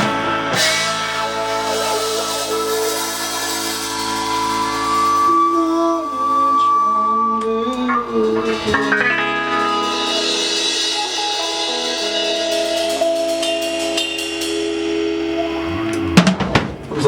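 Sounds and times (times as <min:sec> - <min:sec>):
sustained guitar chords: 0:00.0 - 0:17.0.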